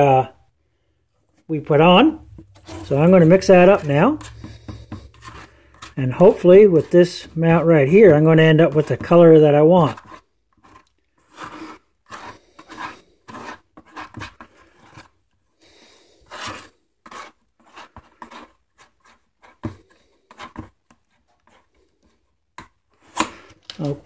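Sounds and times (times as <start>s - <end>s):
paint stirred and scraped in cup: 1.1s - 24.0s.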